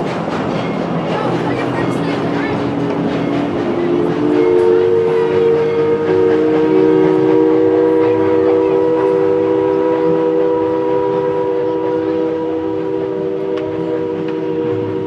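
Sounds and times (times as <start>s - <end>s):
steam locomotive chime whistle: 0.0s - 15.0s.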